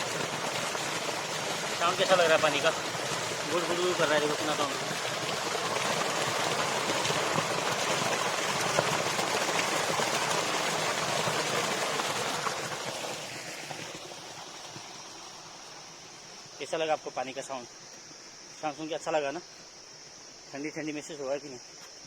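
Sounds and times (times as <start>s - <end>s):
stream rushing and gurgling: 0.0s - 20.7s.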